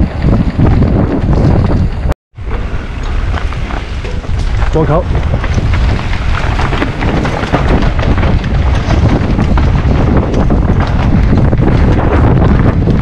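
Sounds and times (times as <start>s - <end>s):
bike tyres and frame rattling: 0.0s - 13.0s
steady low rumble: 0.0s - 13.0s
wind buffeting microphone: 0.0s - 13.0s.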